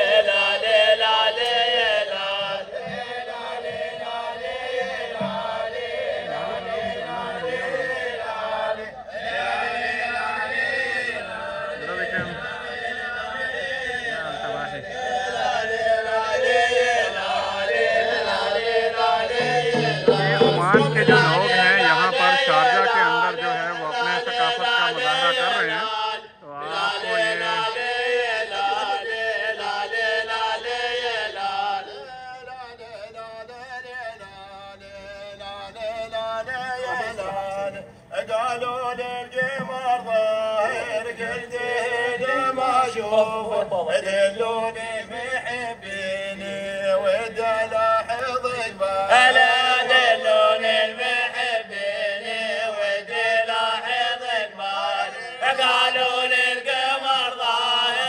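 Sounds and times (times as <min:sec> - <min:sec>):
men chanting together: 0:00.0 - 0:34.8, 0:35.4 - 0:58.0.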